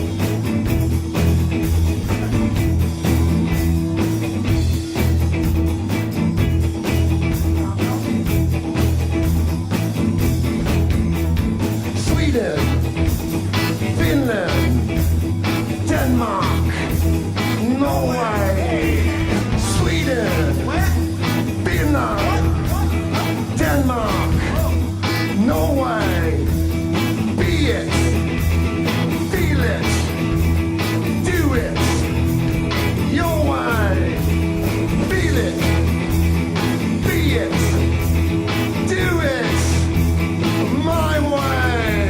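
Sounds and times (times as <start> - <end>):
rock dance track: 0.0 - 42.0
thumping beat: 0.0 - 42.0.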